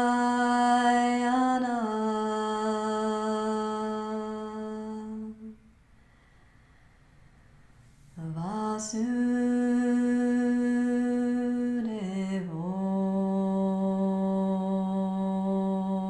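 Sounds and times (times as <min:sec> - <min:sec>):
woman humming a chant: 0:00.0 - 0:05.6, 0:08.2 - 0:16.0.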